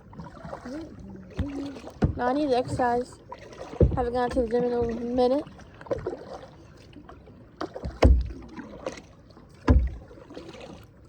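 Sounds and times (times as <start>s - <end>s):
kayak paddle strokes in water: 0.0s - 11.0s.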